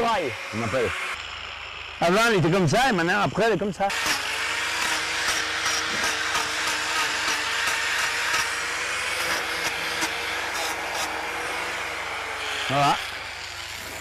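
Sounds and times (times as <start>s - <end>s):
angle grinder grinding hoof: 0.0s - 14.0s.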